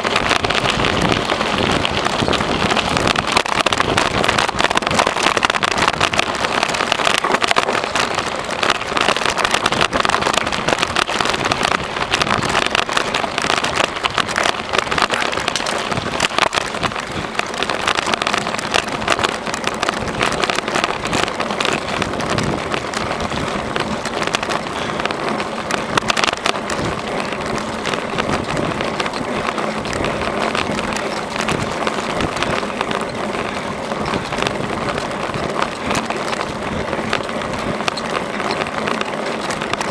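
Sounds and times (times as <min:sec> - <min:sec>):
bicycle rattling over rough trail: 0:00.0 - 0:39.9.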